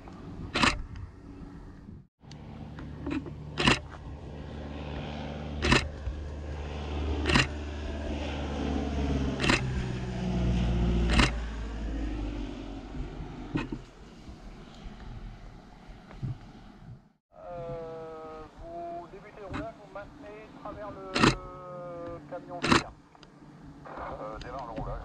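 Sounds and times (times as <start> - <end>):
small aircraft flying overhead: 0.0 - 25.0.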